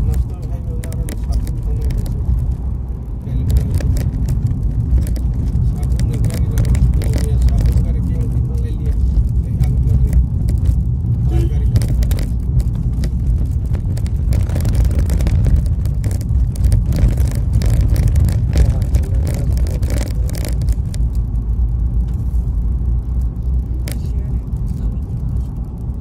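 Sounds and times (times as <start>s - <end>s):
faint rattles and knocks: 0.0s - 26.0s
vehicle engine and tyres rumbling: 0.0s - 26.0s.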